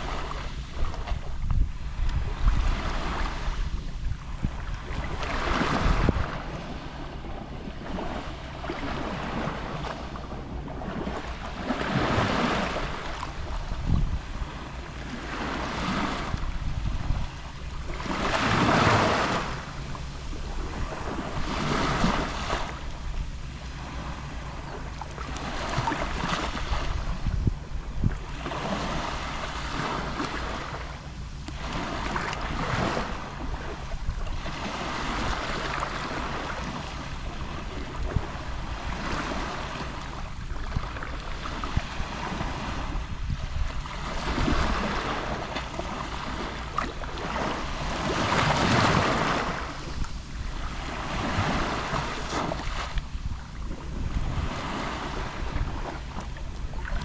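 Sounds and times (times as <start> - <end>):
sea waves lapping on shore: 0.0 - 57.0
wind rumble on microphone: 0.0 - 57.0.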